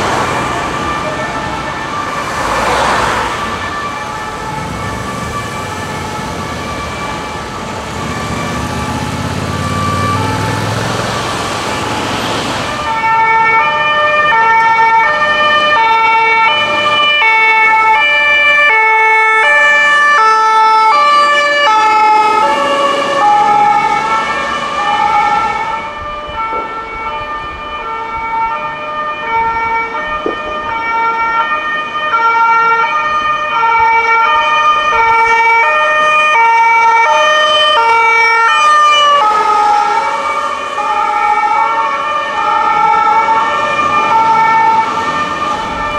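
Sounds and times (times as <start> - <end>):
ambulance two-tone siren: 0.0 - 45.9.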